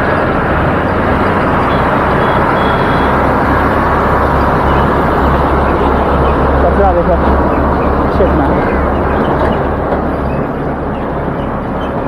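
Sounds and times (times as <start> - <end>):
wind and road noise on microphone: 0.0 - 12.0.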